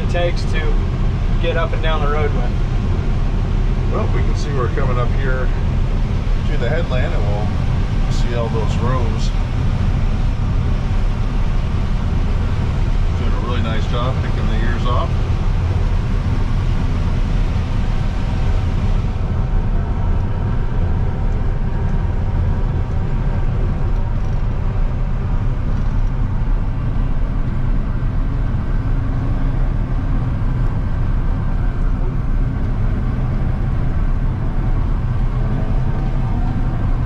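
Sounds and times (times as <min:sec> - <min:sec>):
combine harvester engine droning: 0:00.0 - 0:37.0
faint whining tones: 0:00.0 - 0:37.0.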